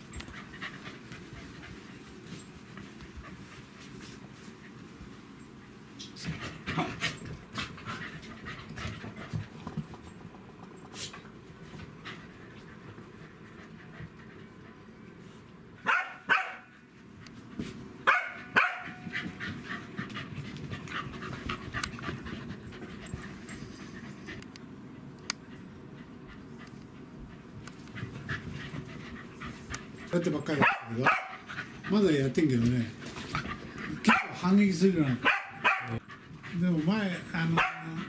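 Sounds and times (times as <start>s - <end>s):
dogs panting and scuffling: 0.0s - 15.7s, 16.7s - 38.0s.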